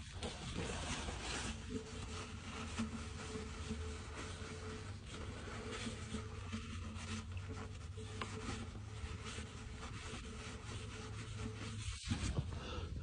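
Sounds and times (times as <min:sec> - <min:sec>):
hands rubbing and scraping parts: 0:00.0 - 0:13.0.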